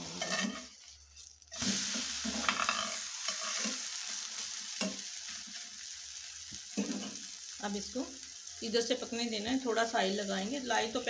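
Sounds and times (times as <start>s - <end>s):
flatbread sizzling in a pan: 0.0s - 11.0s.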